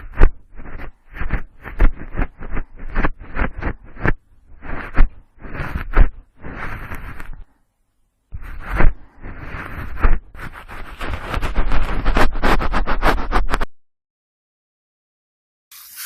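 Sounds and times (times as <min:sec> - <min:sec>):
cotton swab scraping microphone: 0:00.0 - 0:07.6, 0:08.3 - 0:13.8.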